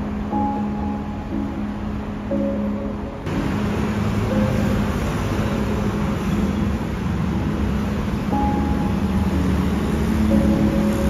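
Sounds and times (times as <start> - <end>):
cars passing: 0.0 - 11.0
low traffic hum: 0.0 - 11.0.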